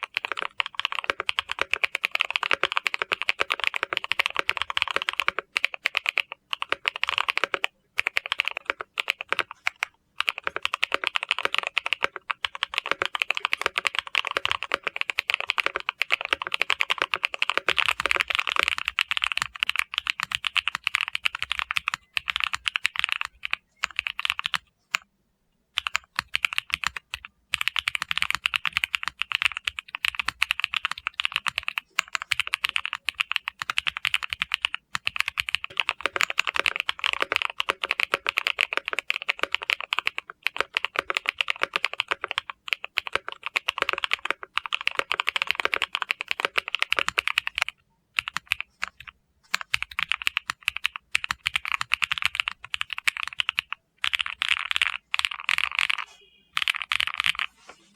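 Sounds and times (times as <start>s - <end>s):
typing on mechanical keyboard: 0.0s - 25.1s, 25.8s - 57.7s.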